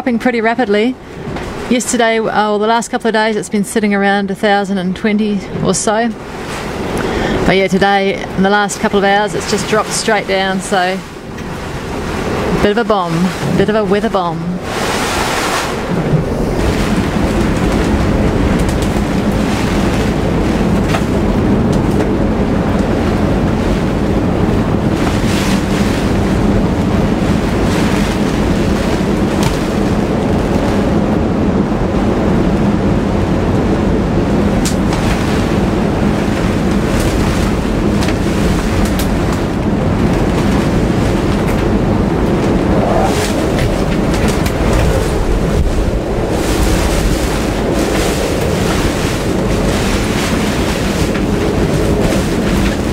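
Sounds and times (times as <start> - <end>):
wind roaring around boat: 0.0 - 52.9.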